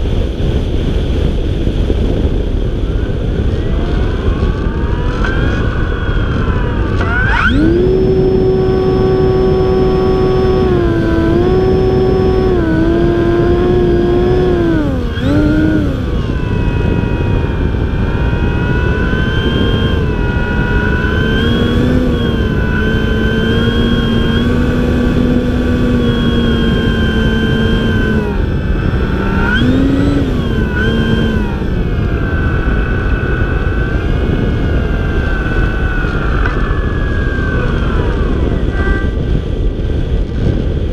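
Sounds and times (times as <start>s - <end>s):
wind rush on microphone: 0.0s - 40.9s
model airplane motor whining: 2.0s - 40.9s.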